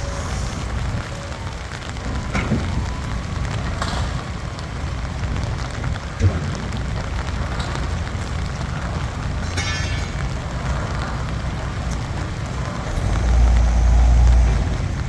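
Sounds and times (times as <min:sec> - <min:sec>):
pile driver engine rumbling: 0:00.0 - 0:15.0.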